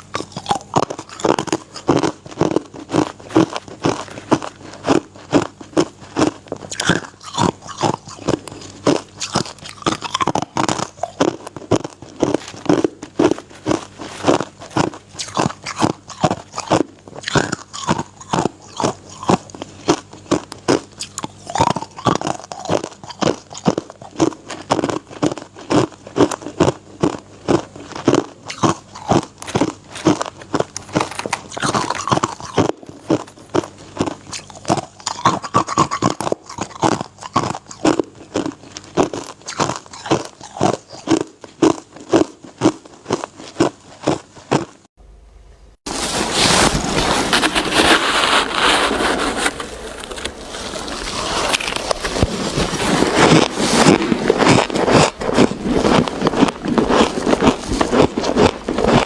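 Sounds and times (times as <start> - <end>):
person crunching ice: 0.0 - 44.8, 45.9 - 59.0.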